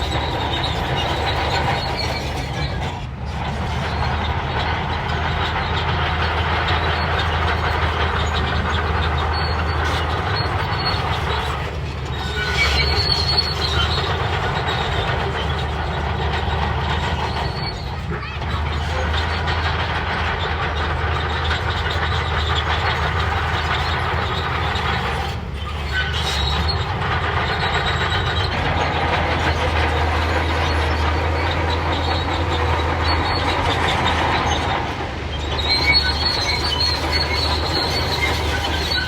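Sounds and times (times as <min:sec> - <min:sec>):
crawler tracks clanking and squealing: 0:00.0 - 0:39.0.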